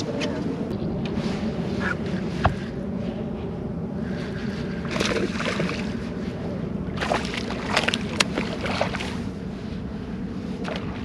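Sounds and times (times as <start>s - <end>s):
water around a boat: 0.0s - 11.0s
wind: 0.0s - 11.0s.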